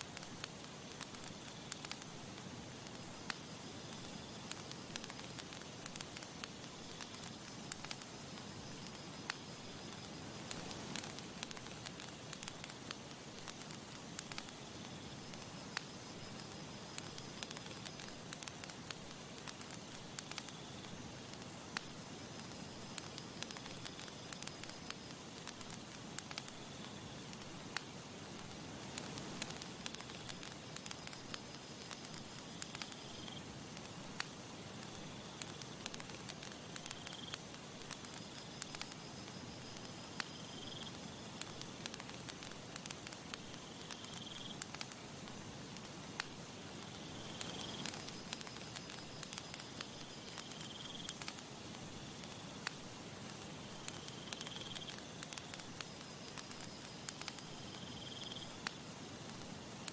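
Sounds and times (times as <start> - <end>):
campfire crackling: 0.0 - 59.9
sharp snaps and pops: 0.0 - 59.9
soft hiss: 0.0 - 59.9.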